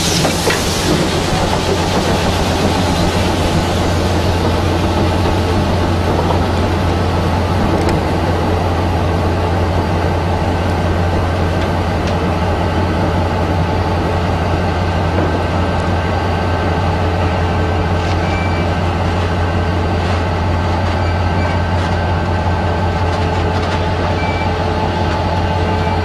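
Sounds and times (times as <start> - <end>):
train coaches rumbling past: 0.0 - 26.0.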